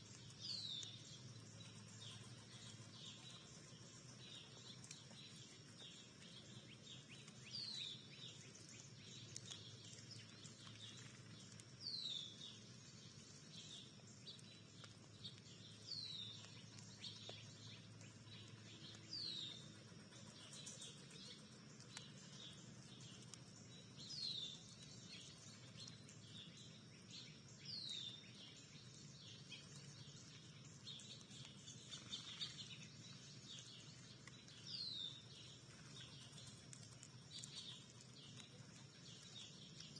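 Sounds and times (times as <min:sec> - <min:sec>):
low background hum: 0:00.0 - 0:39.9
soft bird chips: 0:00.0 - 0:39.9.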